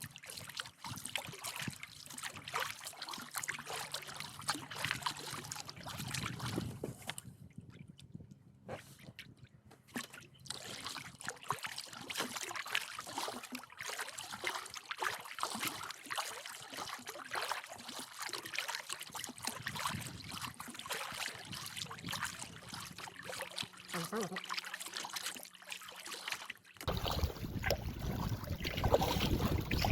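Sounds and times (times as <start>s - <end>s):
paddle splashing in water: 0.0s - 7.2s, 9.8s - 29.9s.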